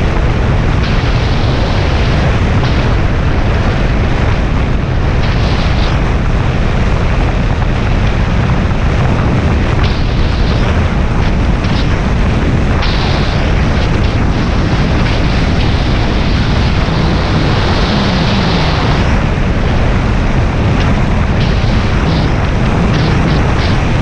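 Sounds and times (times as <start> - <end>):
motorcycle running at speed: 0.0 - 24.0
wind noise over microphone: 0.0 - 24.0.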